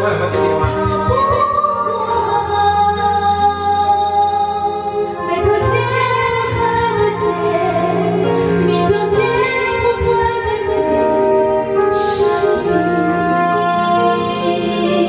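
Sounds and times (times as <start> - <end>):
instrumental backing track: 0.0 - 15.0
woman singing into microphone: 0.0 - 15.0.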